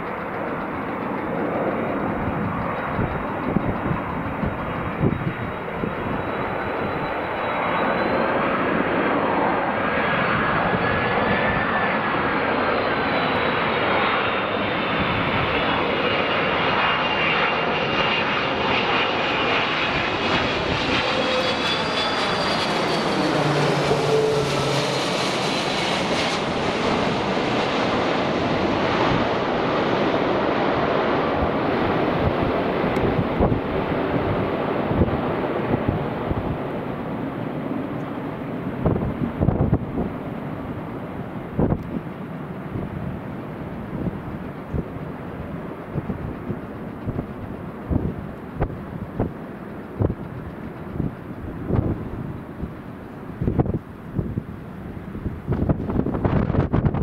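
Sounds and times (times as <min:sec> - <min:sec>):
jet airliner flying overhead: 0:00.0 - 0:57.0
thin high engine whine: 0:00.0 - 0:57.0.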